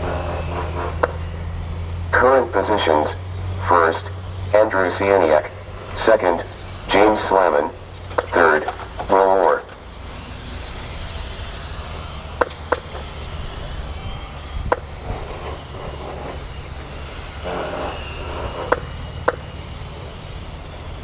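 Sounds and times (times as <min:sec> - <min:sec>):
rc car motor whine: 0:00.0 - 0:21.0.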